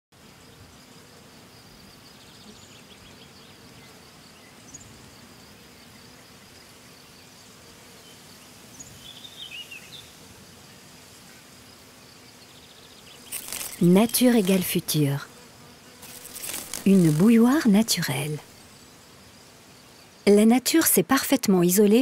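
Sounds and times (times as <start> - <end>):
insect buzz: 0.2 - 22.0.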